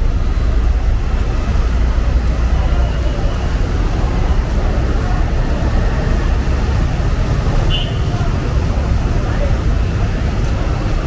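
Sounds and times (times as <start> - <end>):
vehicle engines and traffic rumble: 0.0 - 11.0
people talking: 1.8 - 11.0.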